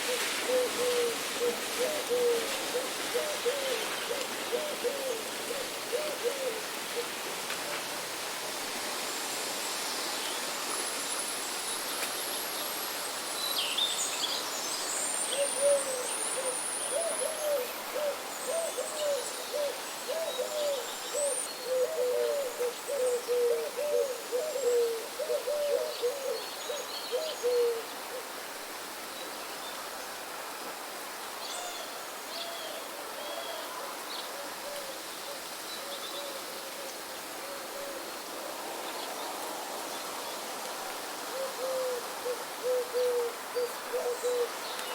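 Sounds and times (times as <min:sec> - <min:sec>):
rain hiss: 0:00.0 - 0:44.9
wind: 0:00.0 - 0:44.9.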